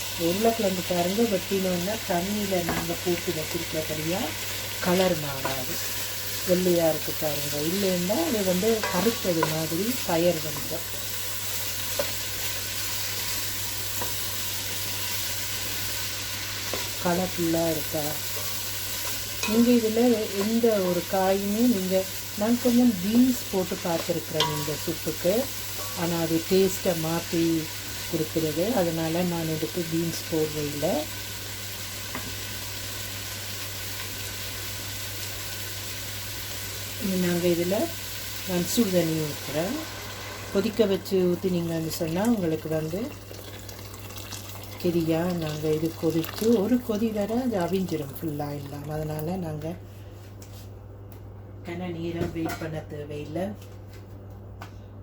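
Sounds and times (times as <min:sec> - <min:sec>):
vegetables sizzling in a pan: 0:00.0 - 0:49.4.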